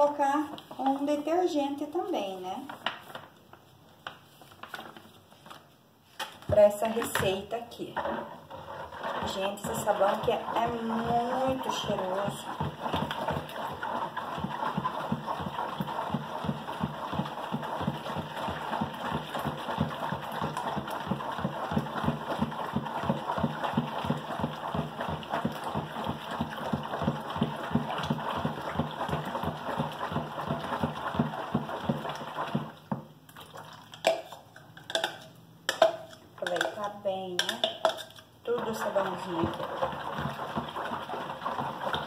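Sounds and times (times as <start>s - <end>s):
spatula sloshing and scraping bowl: 6.6s - 42.0s.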